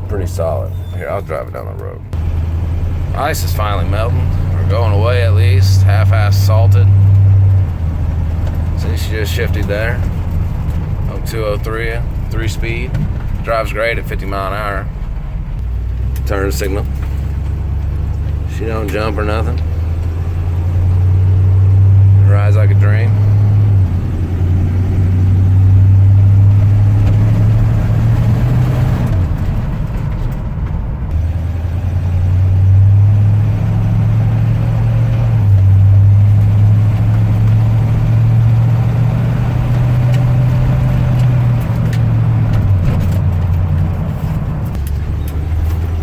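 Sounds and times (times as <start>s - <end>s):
pickup truck engine drone: 0.0s - 46.0s.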